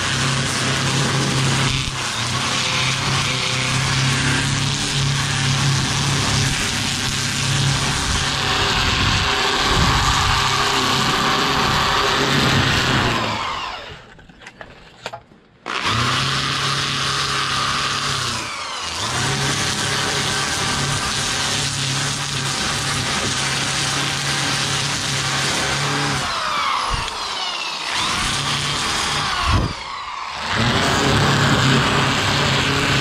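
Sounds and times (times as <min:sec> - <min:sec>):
drill sanding wood whine: 0:00.0 - 0:14.3, 0:15.7 - 0:33.0.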